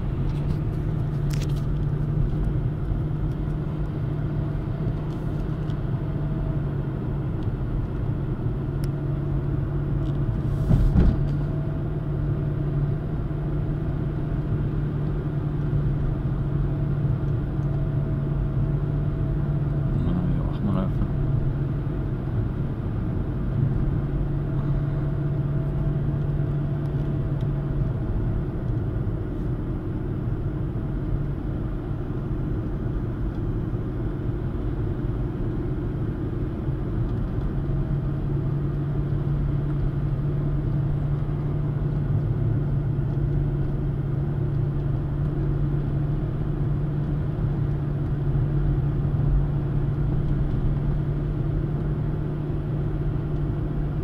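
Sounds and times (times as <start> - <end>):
car engine drone: 0.0 - 54.0
tyre road noise: 0.0 - 54.0.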